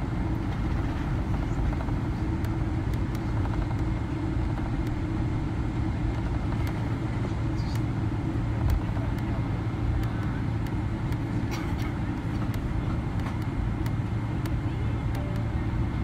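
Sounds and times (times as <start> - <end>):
aircraft cabin low rumble: 0.0 - 16.0.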